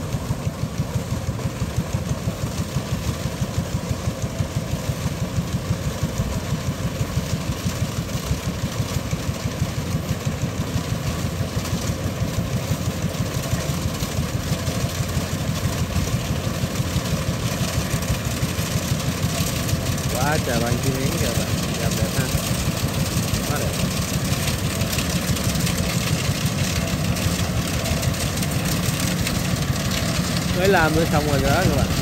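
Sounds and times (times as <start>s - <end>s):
combine harvester engine droning: 0.0s - 32.0s.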